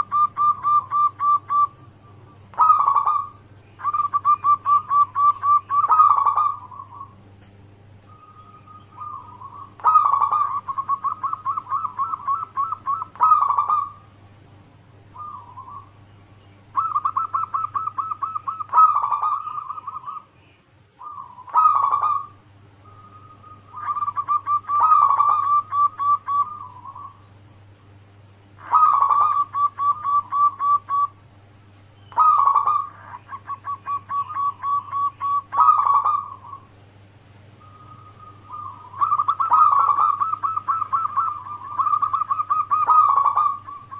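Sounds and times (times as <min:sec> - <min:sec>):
dove cooing: 0:00.0 - 0:14.2, 0:15.0 - 0:20.4, 0:21.0 - 0:27.5, 0:28.5 - 0:31.2, 0:32.0 - 0:36.8, 0:37.5 - 0:43.9.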